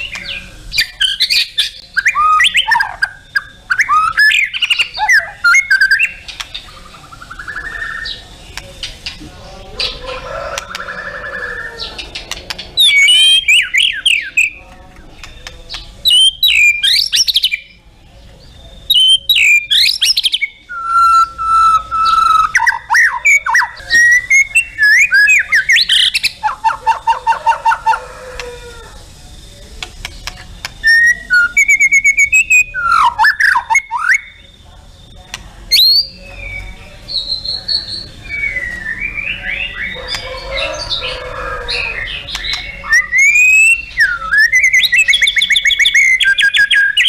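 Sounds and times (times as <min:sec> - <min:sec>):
bird singing whistled song: 0:00.0 - 0:08.7, 0:12.8 - 0:14.6, 0:15.2 - 0:17.8, 0:18.4 - 0:27.2, 0:30.0 - 0:47.0.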